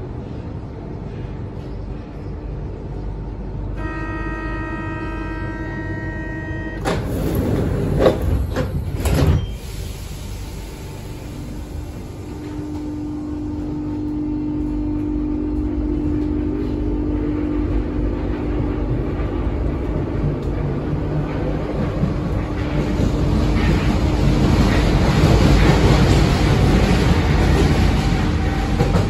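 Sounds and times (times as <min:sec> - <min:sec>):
metro train pulling away: 0:00.0 - 0:29.0.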